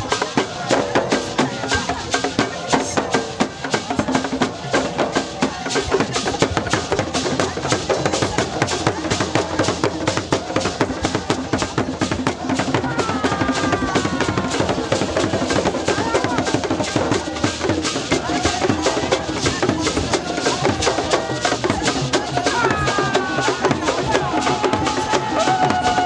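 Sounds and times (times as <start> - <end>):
hand drums playing fast rhythm: 0.0 - 26.0
voices singing: 0.0 - 26.0.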